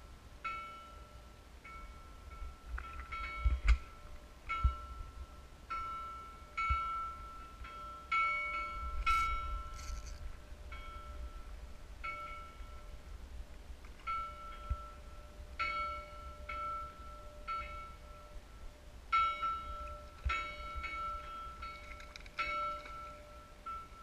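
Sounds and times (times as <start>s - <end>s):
low wind: 0.0s - 24.0s.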